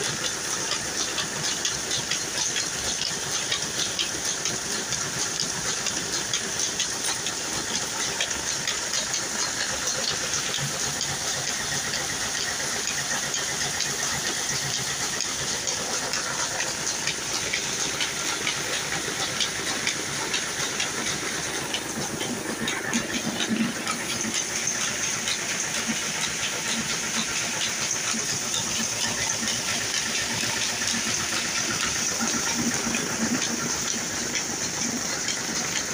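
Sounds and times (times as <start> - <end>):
oil press mechanical rattle: 0.0 - 35.9.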